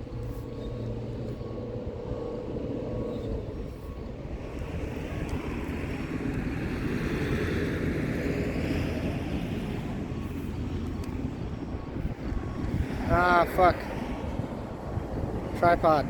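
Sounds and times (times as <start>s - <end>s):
freight train rumble: 0.0s - 16.0s
wind on microphone: 0.0s - 16.0s.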